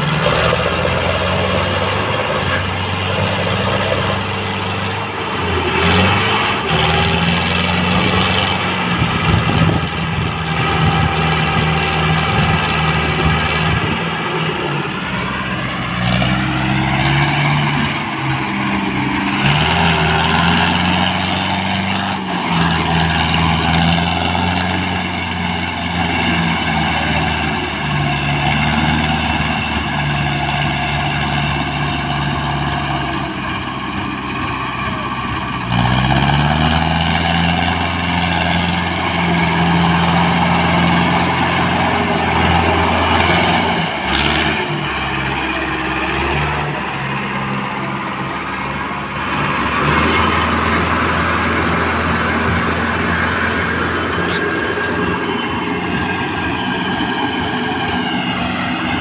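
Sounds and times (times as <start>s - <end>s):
diesel tractor engine revving: 0.0s - 59.0s.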